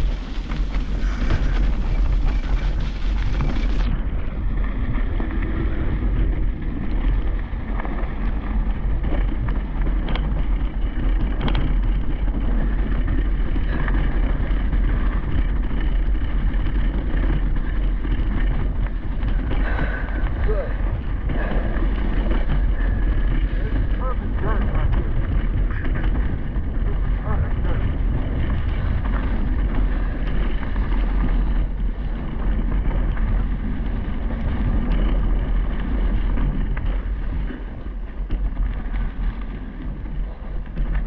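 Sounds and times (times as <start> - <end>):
bike rolling on dirt trail: 0.0 - 41.0
wind buffeting camera: 0.0 - 41.0.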